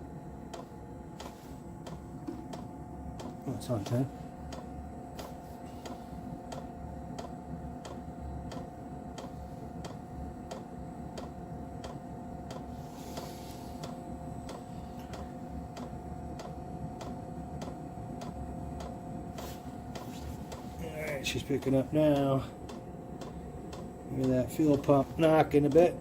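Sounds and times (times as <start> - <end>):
heater humming: 0.0 - 26.0.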